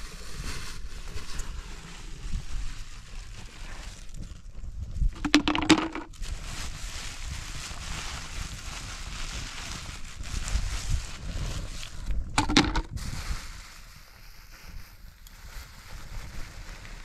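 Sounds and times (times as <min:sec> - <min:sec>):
plastic sack rustling: 0:00.0 - 0:17.0
wind rumble on microphone: 0:00.0 - 0:17.0.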